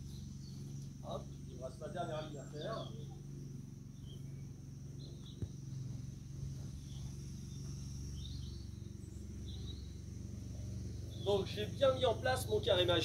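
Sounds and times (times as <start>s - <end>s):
bird chirps: 0.0s - 13.0s
steady low hum: 0.0s - 13.0s.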